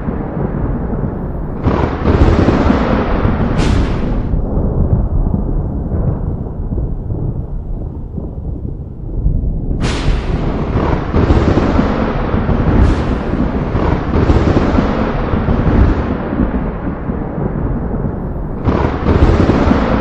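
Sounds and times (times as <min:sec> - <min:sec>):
rolling thunder rumbles: 0:00.0 - 0:20.0
thunder cracks: 0:00.0 - 0:20.0.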